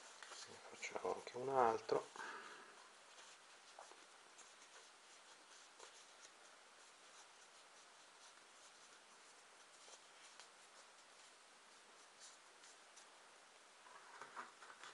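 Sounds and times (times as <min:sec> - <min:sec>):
cardboard rustling between fingers: 0:00.0 - 0:13.2
low hiss: 0:00.0 - 0:14.9.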